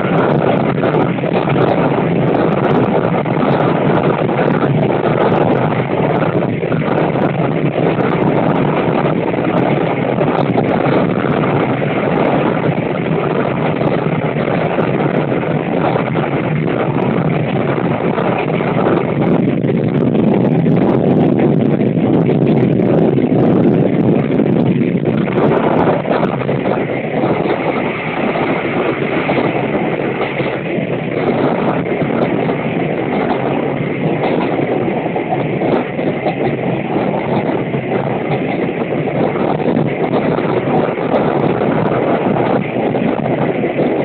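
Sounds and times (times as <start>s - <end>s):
train running noise: 0.0s - 44.0s
wind buffeting microphone: 0.0s - 44.0s.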